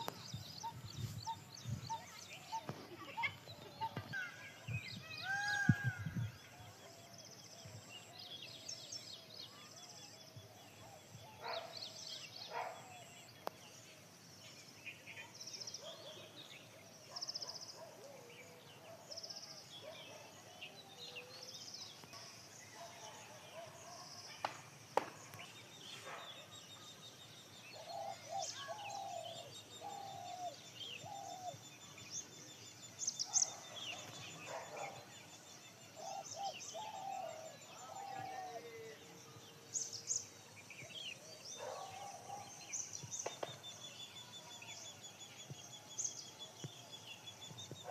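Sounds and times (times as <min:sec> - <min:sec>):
lower repeated bird calls: 0:00.0 - 0:13.6, 0:14.6 - 0:47.9
birds twittering and trilling: 0:00.0 - 0:47.9.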